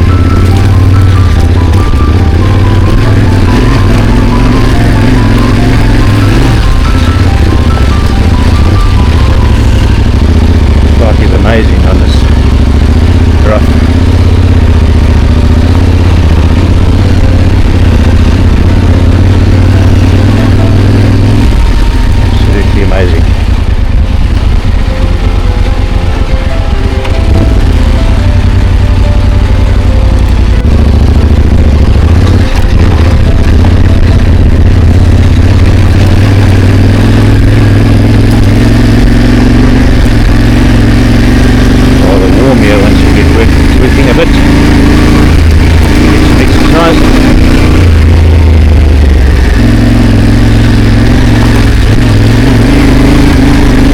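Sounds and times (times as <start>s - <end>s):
higher hum: 0.0s - 53.9s
motorcycle engine at low revs: 0.0s - 53.9s.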